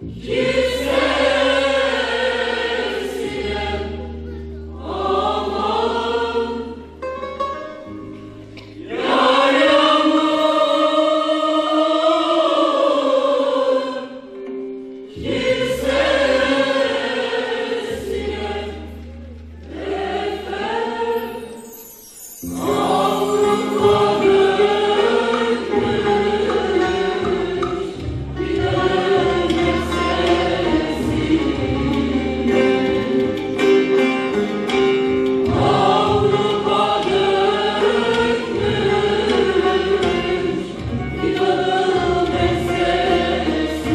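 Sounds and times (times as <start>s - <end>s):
mixed choir singing folk song: 0.0s - 43.9s.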